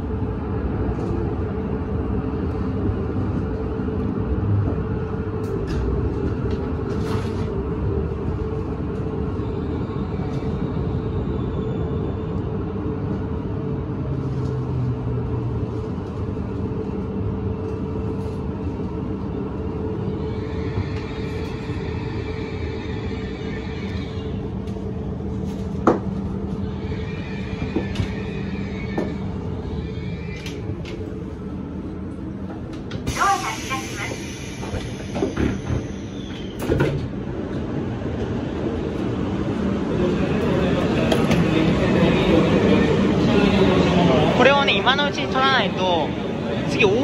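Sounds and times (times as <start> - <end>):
train running noise from inside: 0.0 - 47.0.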